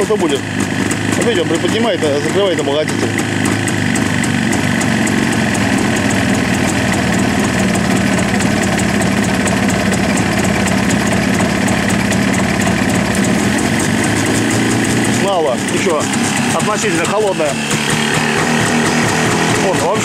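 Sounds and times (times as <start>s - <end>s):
two-stroke engine idling unevenly: 0.0s - 20.0s.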